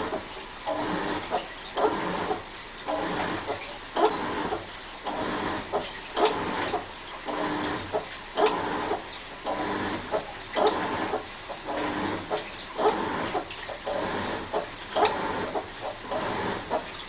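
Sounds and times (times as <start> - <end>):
washing machine squeaking groan: 0.0 - 7.8, 8.4 - 17.0.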